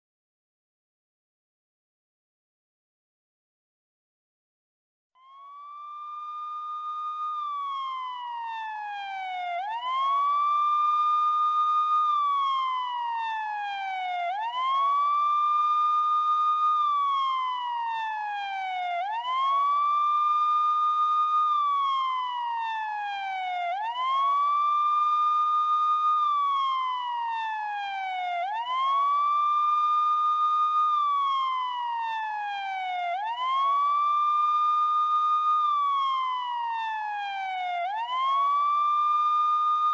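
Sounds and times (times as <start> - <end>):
police siren wailing: 5.2 - 39.9.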